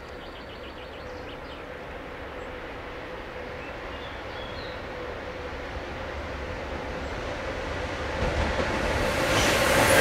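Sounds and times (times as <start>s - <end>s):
freight train rumble: 0.0s - 10.0s.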